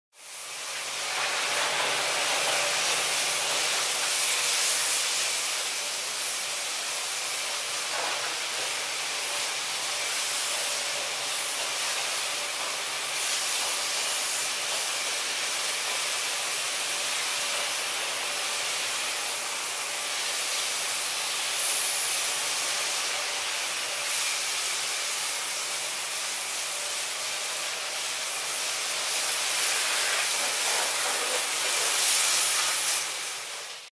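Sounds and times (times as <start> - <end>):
water sprays hissing: 0.2 - 33.9.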